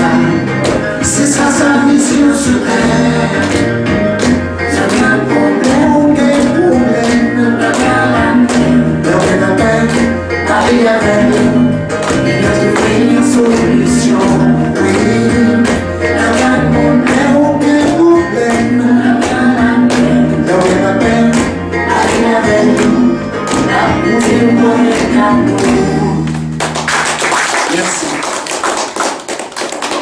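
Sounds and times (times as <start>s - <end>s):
man singing into microphone: 0.0s - 3.8s, 4.6s - 26.4s
music with steady beat: 0.0s - 27.0s.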